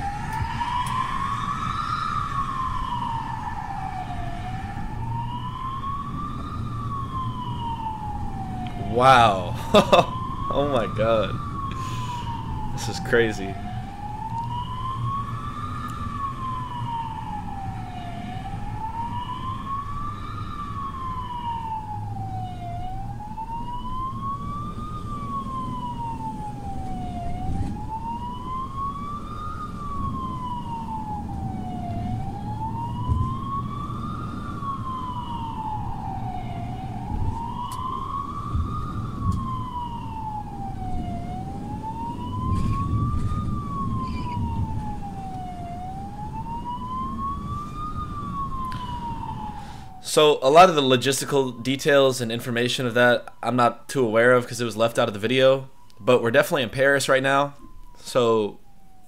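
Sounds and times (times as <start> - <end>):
emergency siren wailing: 0.0 - 59.0
road noise rumble: 0.0 - 59.0.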